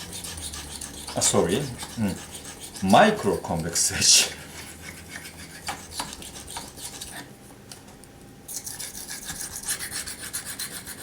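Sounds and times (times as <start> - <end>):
knife blade scraping on sharpener: 0.0 - 7.3, 8.5 - 11.0.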